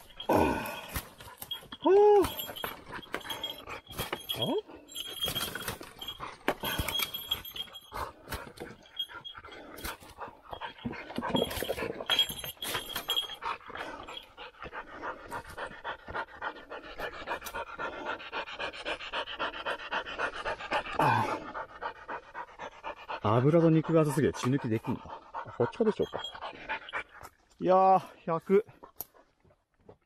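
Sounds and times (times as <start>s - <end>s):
dog panting hard: 0.0s - 29.9s.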